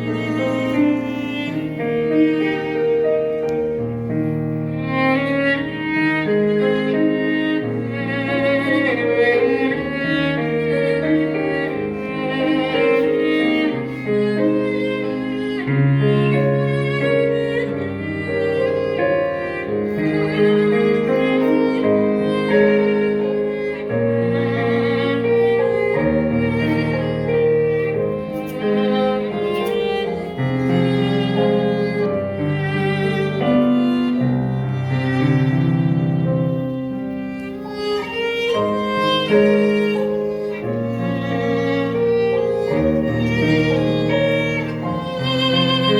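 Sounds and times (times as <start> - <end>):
cello: 0.0 - 45.9
piano: 0.0 - 45.9
violin: 0.0 - 45.9.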